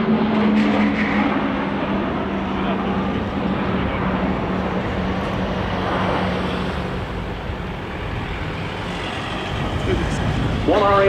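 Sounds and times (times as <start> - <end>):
turboprop engines in flight: 0.0 - 11.0.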